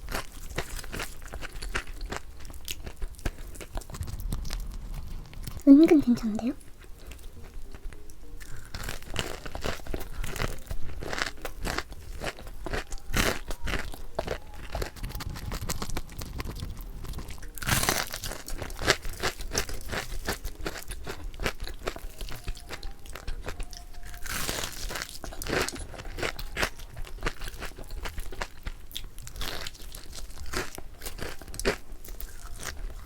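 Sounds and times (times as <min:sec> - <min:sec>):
crunching and chewing fried chicken: 0:00.0 - 0:33.0.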